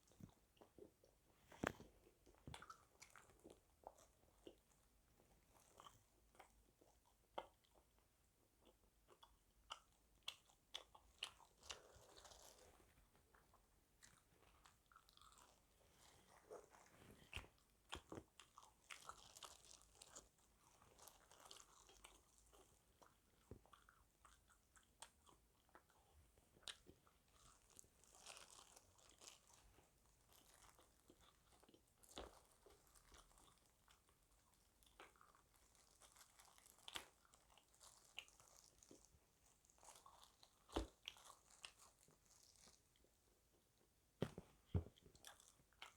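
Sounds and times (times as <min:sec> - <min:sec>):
soft chewing: 0:00.0 - 0:45.9.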